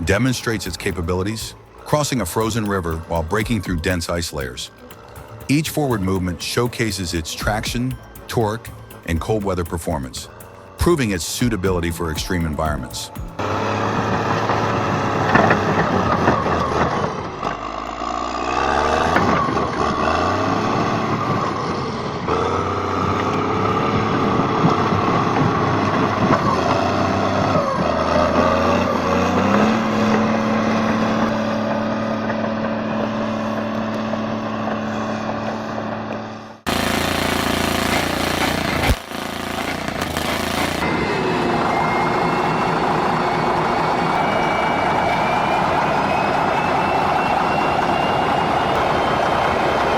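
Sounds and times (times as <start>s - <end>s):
heavy machine diesel engine working: 0.0s - 49.9s
noisier machine sound: 0.0s - 49.9s.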